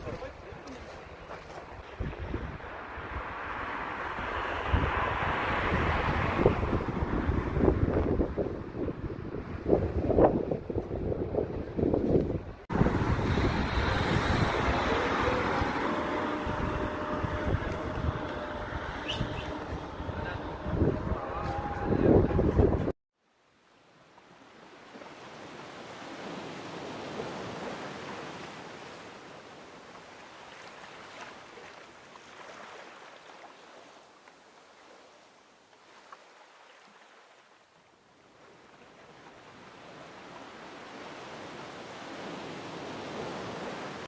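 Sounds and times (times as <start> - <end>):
waves washing against a sea wall: 0.0 - 22.9, 24.5 - 44.0.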